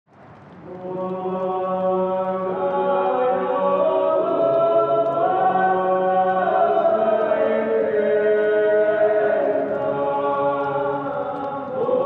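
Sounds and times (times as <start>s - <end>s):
choir singing sustained chords: 0.6s - 12.0s.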